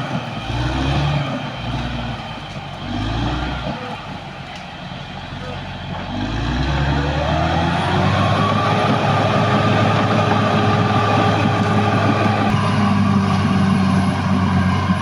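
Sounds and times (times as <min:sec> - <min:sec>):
bulldozer diesel engine revving: 0:00.0 - 0:15.0.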